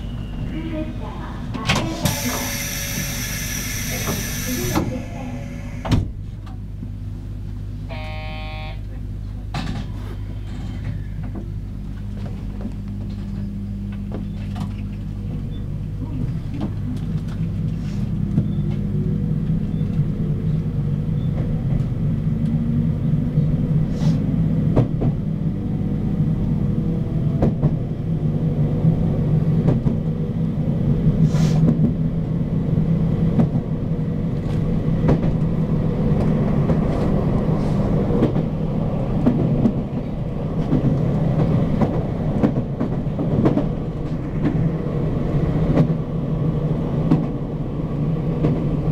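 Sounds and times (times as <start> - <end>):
train wheels rumbling on rails: 0.0 - 7.6, 9.2 - 48.9.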